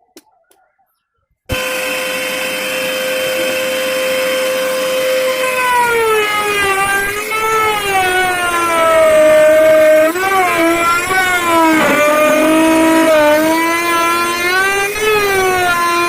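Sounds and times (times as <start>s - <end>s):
wood router whining: 1.5s - 16.0s.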